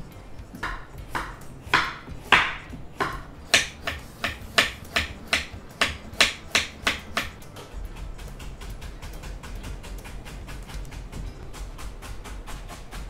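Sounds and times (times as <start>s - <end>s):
knife chopping carrot on wooden board: 0.4s - 13.0s.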